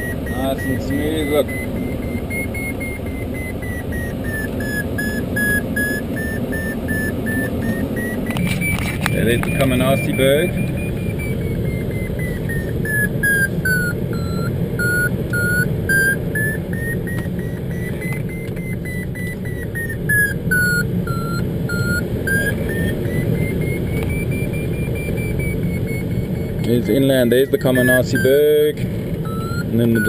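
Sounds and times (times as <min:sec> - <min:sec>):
variometer beeping: 0:00.0 - 0:30.0.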